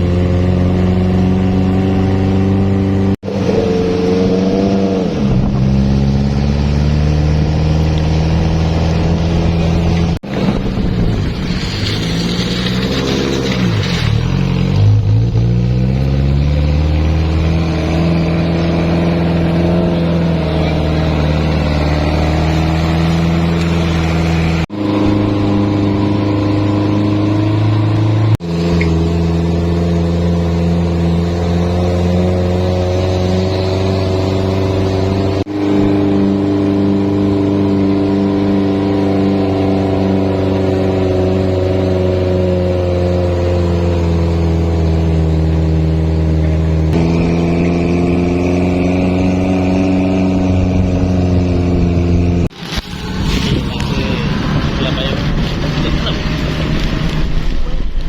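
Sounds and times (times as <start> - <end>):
off-road vehicle engine under load: 0.0 - 58.0.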